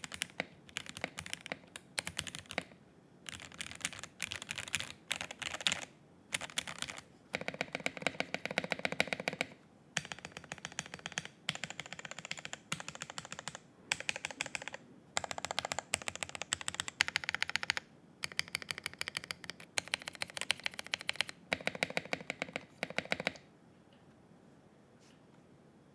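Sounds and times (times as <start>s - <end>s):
mechanical keyboard typing: 0.0s - 2.7s, 3.3s - 23.4s.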